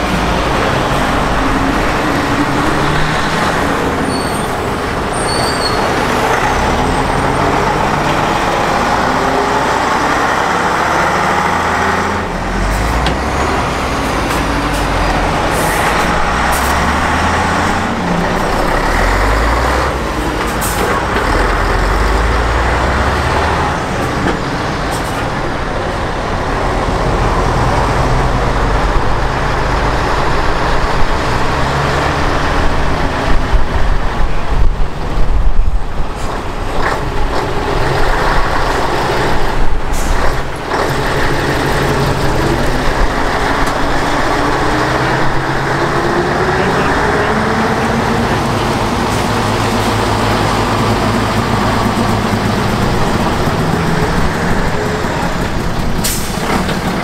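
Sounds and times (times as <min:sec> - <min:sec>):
heavy diesel engines droning: 0:00.0 - 0:57.0.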